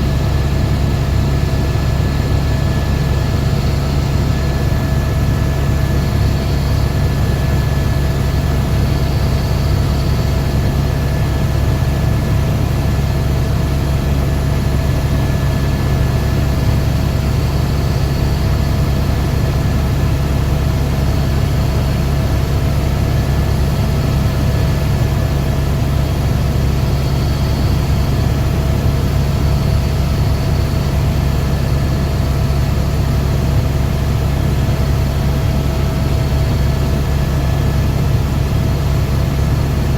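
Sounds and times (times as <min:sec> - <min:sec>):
turbine engine whine: 0:00.0 - 0:39.9.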